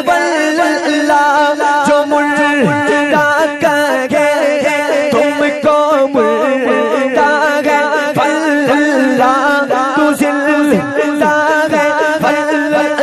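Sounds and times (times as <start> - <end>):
wordless devotional melody: 0.0 - 13.0.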